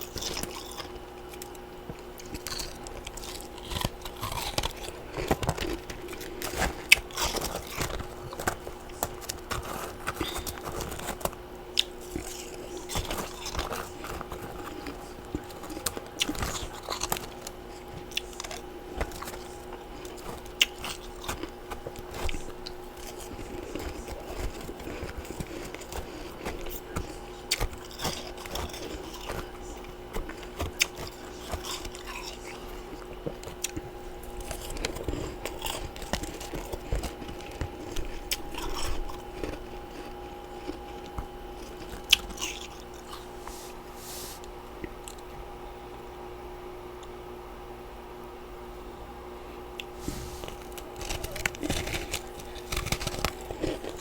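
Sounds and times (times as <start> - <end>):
crunching and chewing ice: 0.0 - 44.0, 49.8 - 54.0.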